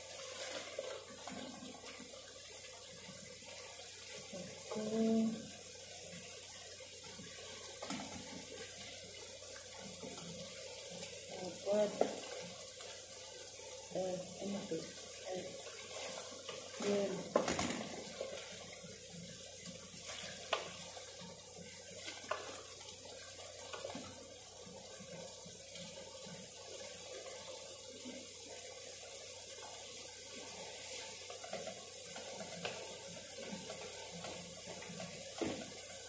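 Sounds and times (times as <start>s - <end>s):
tap water running into sink: 0.0s - 36.0s.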